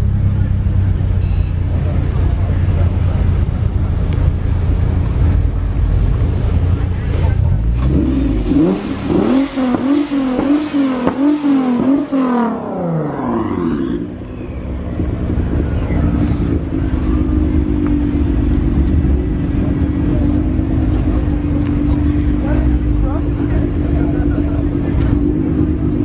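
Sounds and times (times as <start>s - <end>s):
car engine revving: 1.8s - 26.0s.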